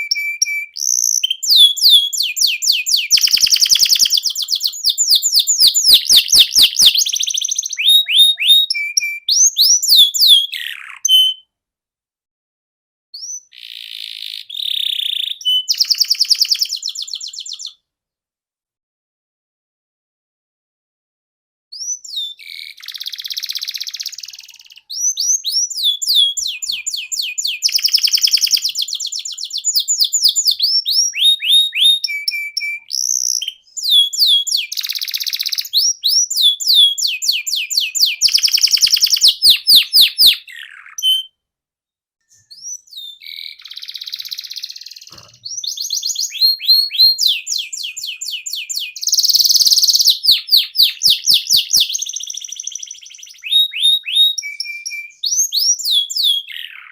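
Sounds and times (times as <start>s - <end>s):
canary singing: 0.0s - 11.5s, 13.2s - 17.8s, 21.7s - 41.4s, 42.3s - 56.9s.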